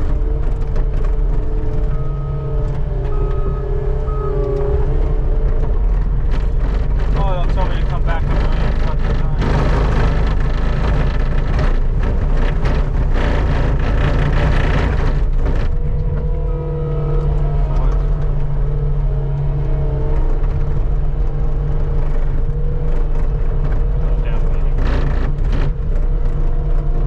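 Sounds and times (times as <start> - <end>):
faint engine whine: 0.0 - 27.0
skid steer engine running: 0.0 - 27.0.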